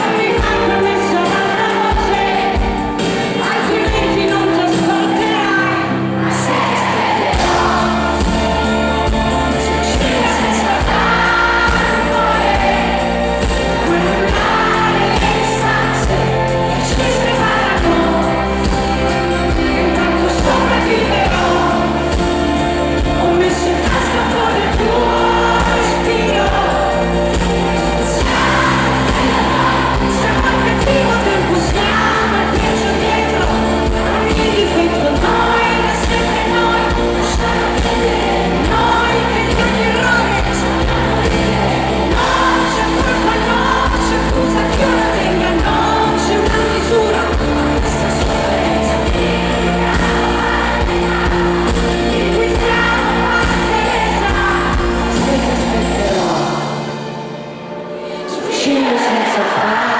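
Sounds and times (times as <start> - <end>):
woman singing pop song with band: 0.0 - 57.0, 58.1 - 59.9.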